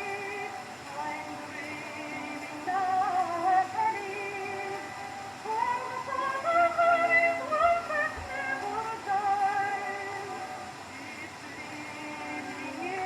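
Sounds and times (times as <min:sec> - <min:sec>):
old record melody with vibrato: 0:00.0 - 0:13.0.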